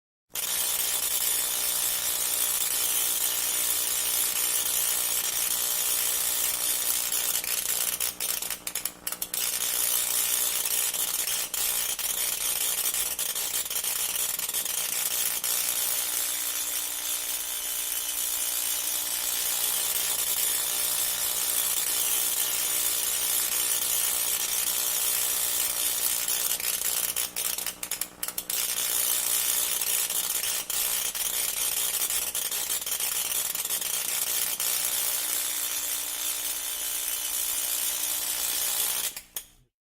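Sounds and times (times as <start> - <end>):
tesla coil buzzing crackle: 0.5 - 39.3.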